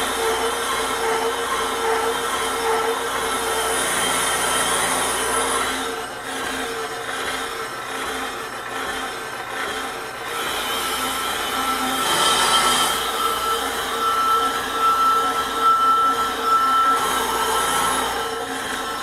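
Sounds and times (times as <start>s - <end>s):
high squeal of lathe cutting: 0.0s - 19.0s
machine hum: 0.0s - 19.0s.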